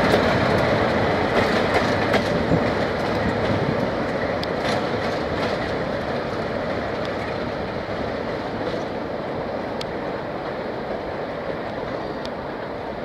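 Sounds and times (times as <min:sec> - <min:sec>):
faint track clicks: 0:00.0 - 0:07.6, 0:09.7 - 0:12.7
diesel train rumbling: 0:00.0 - 0:13.0.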